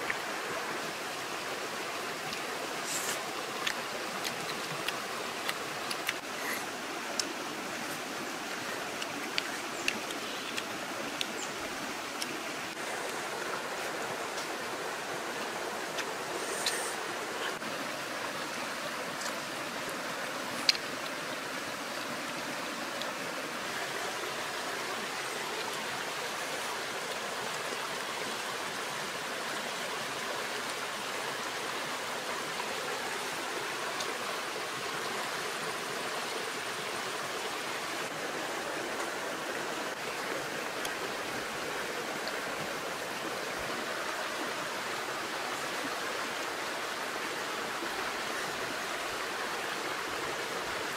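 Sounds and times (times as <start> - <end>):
stream rushing over stones: 0.0 - 50.9.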